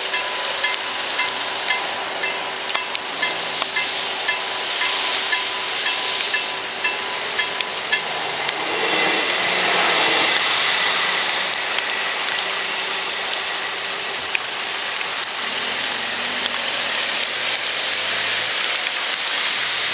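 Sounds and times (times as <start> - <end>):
rain hiss: 0.0 - 19.9
train passing: 0.0 - 19.9
tyres on wet road: 0.0 - 19.9.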